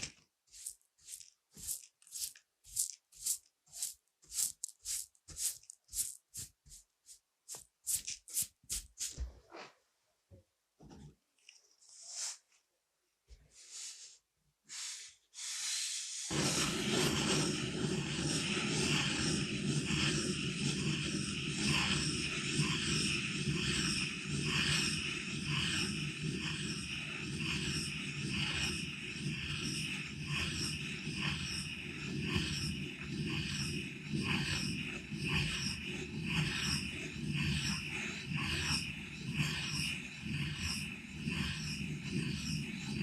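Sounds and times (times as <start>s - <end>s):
pencil scratching on paper: 0.0s - 9.3s, 14.8s - 43.0s.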